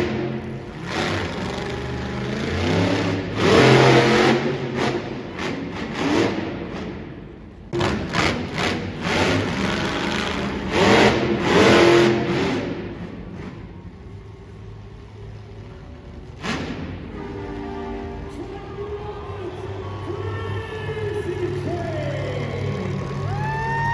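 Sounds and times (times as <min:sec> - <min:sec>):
monster truck engine revving: 0:00.0 - 0:23.9.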